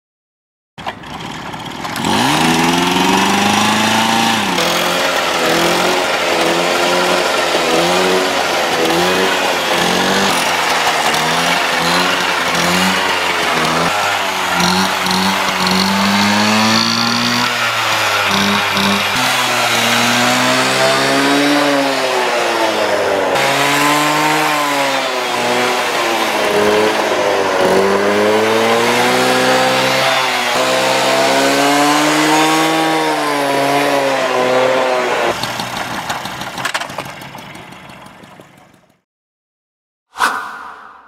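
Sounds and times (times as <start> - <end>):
moped engine revving: 0.8 - 39.0.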